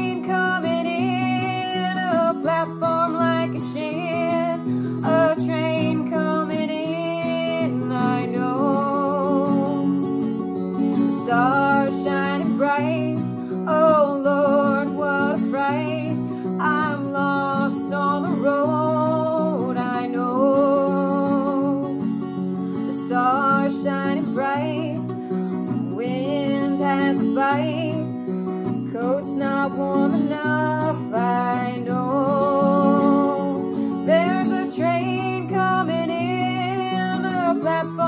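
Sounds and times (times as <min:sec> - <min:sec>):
acoustic guitar chords: 0:00.0 - 0:38.0
woman singing: 0:00.0 - 0:38.0.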